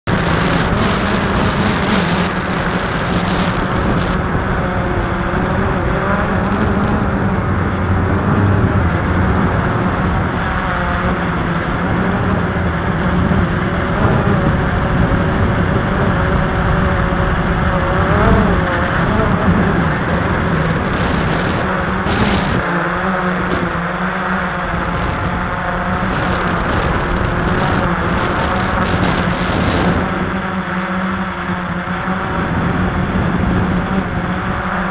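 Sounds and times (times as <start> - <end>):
drone propellers humming: 0.0 - 34.9.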